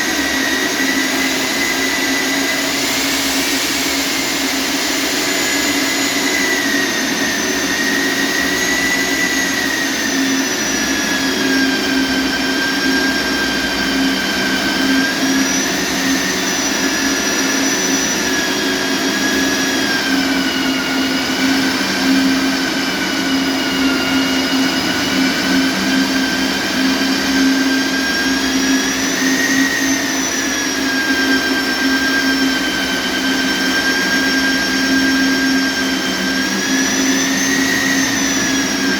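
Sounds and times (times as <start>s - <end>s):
electric drill motor whining: 0.0s - 38.9s.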